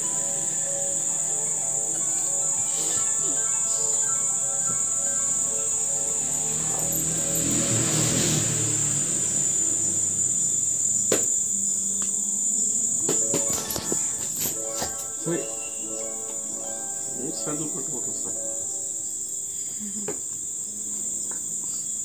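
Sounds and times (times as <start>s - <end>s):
high-pitched buzz: 0.0s - 21.3s.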